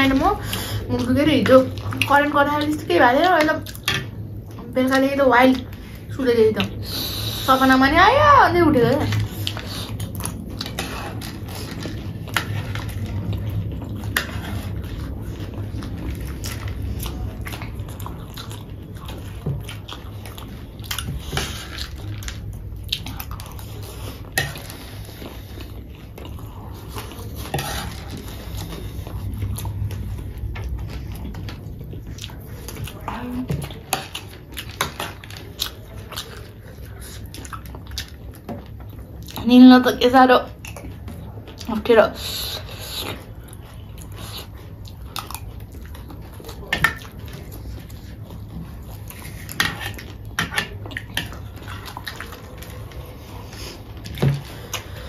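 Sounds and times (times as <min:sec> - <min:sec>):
chewing and crunching: 0:08.7 - 0:39.6, 0:40.4 - 0:55.0.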